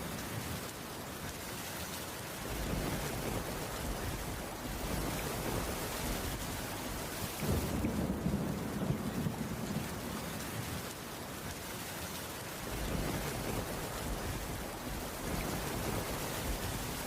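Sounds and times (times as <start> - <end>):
heavy rain on wooden roof: 0.0 - 17.0.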